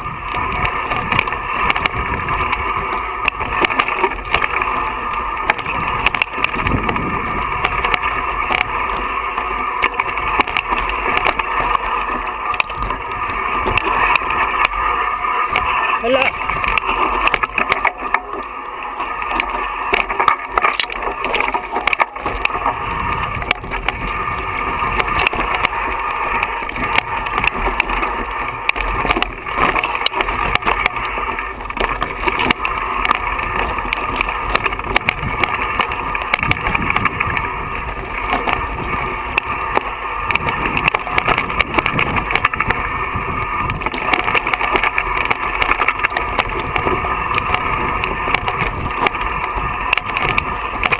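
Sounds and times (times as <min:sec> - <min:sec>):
bike knocking over rocks: 0:00.0 - 0:50.9
bike rattling and clattering: 0:00.0 - 0:50.9
tyres crunching over stones: 0:00.0 - 0:50.9.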